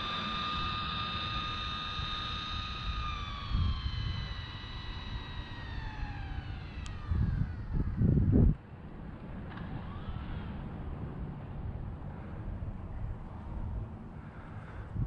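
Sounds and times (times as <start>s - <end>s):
rc car motor whine: 0.0s - 13.5s
wind buffeting microphone: 1.8s - 15.0s.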